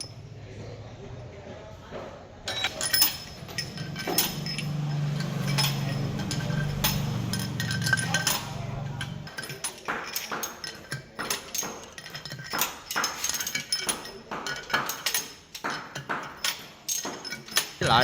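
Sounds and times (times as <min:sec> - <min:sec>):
metal parts clinking: 0:02.5 - 0:18.0.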